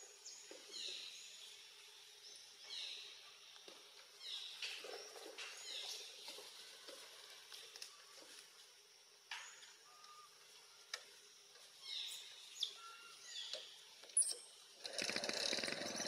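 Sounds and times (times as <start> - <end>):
birds chirping: 0.0 - 8.5, 9.3 - 16.0.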